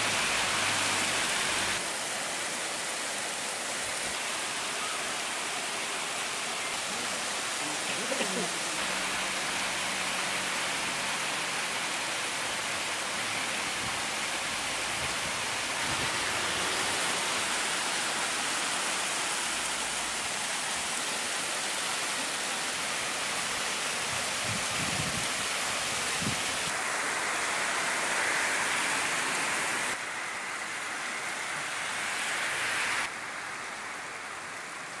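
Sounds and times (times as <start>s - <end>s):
hail and heavy rain on asphalt: 0.0s - 30.8s.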